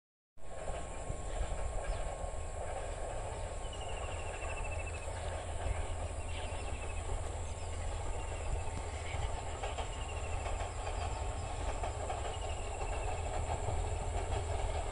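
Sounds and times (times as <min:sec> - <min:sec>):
distant diesel train rumble: 0:00.4 - 0:14.9.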